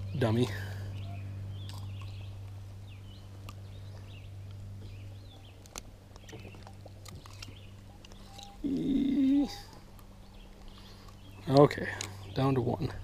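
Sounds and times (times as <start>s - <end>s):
faint bird chirps: 0.0s - 5.6s, 6.2s - 13.0s
steady low hum: 0.0s - 13.0s.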